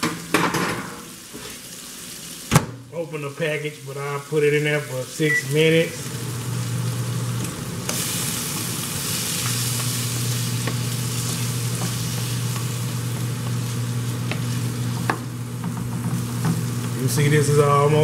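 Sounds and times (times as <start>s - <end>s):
shrimp sizzling in a frying pan: 0.0s - 2.6s, 3.3s - 17.7s.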